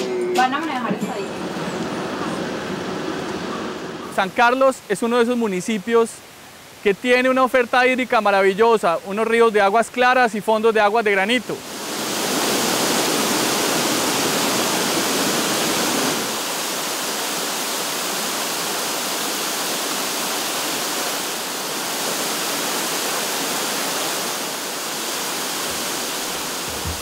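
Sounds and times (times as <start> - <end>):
waterfall rushing and splashing: 0.8 - 27.0.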